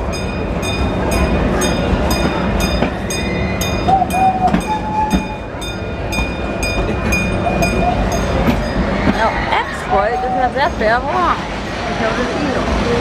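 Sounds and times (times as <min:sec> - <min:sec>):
regular track clicking: 0:00.0 - 0:13.0
train car rumbling on track: 0:00.0 - 0:13.0.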